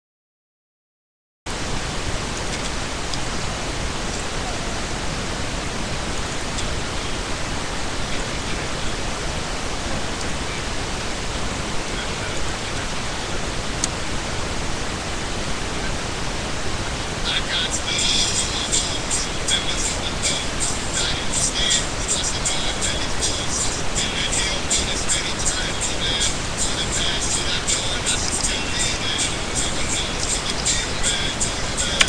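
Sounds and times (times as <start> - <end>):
steady hiss: 1.5 - 32.0.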